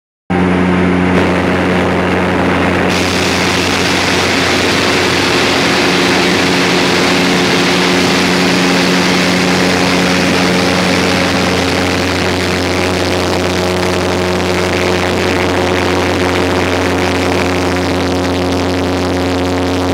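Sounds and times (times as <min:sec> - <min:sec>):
propeller engine hum: 0:00.3 - 0:19.9
steady tones: 0:00.6 - 0:19.6
rush of airflow: 0:00.8 - 0:18.1.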